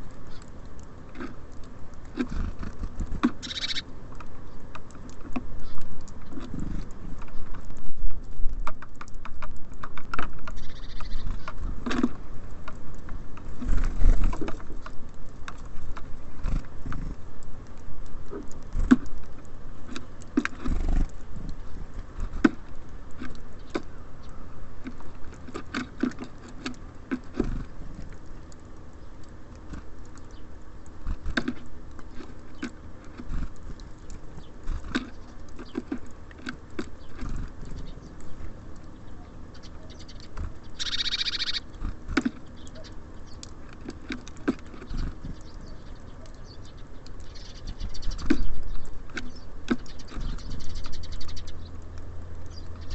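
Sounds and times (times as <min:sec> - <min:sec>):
birds pecking on feeder: 0:00.0 - 0:52.9.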